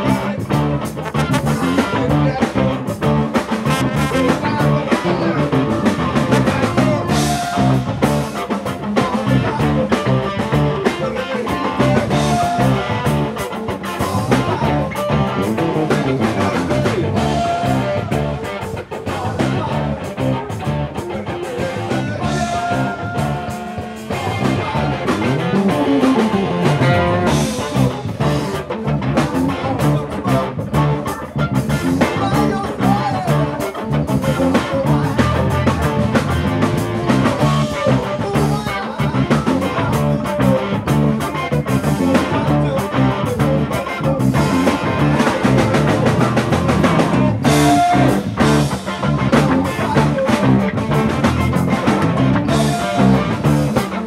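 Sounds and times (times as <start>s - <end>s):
drum kit: 0.0s - 54.0s
electric guitar: 0.0s - 54.0s.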